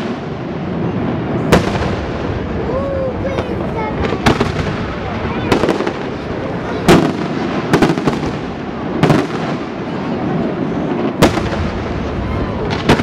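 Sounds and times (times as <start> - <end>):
continuous rumble: 0.0 - 13.0.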